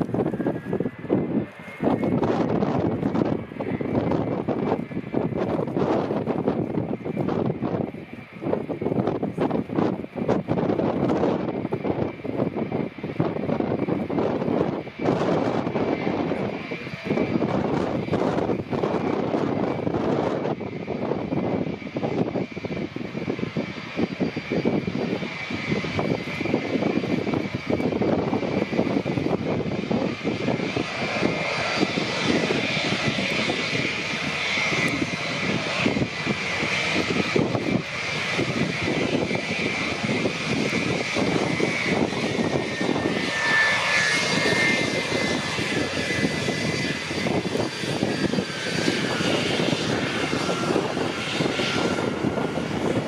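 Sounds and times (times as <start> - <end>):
jet engines with high whine: 0.0 - 53.0.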